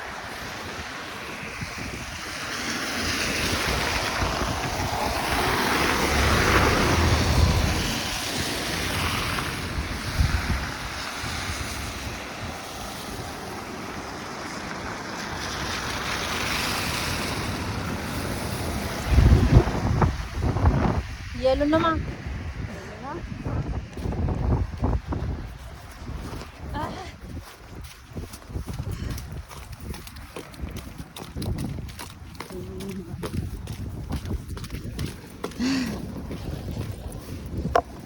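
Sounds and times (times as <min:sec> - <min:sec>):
wind gusting across microphone: 0:00.0 - 0:38.0.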